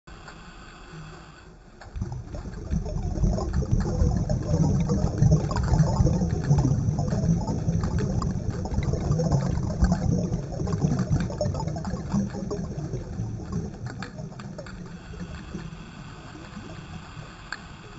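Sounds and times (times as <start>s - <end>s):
underwater crackles: 0.9s - 17.9s
underwater water rumble: 1.8s - 17.9s.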